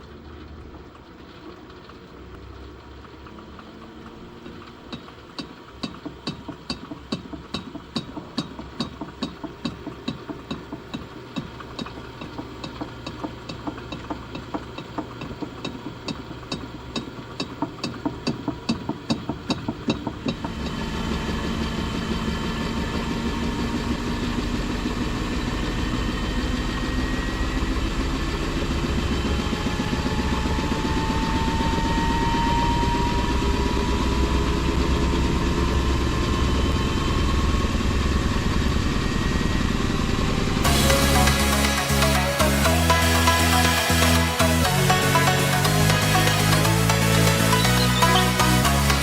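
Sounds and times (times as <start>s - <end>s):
washing machine spinning up: 0.0s - 49.0s.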